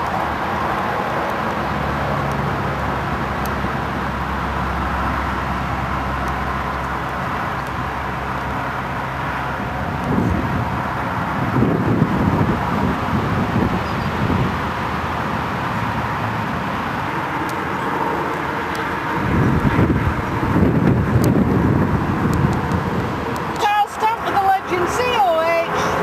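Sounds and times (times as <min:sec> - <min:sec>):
low engine hum: 0:00.0 - 0:26.0
outdoor background noise: 0:00.0 - 0:26.0.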